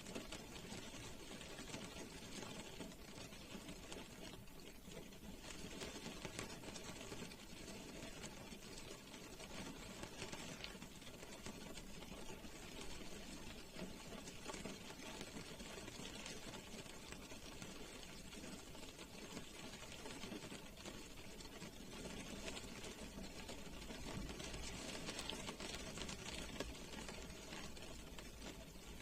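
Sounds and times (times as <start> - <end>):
rain pattering on car roof: 0.0 - 29.0.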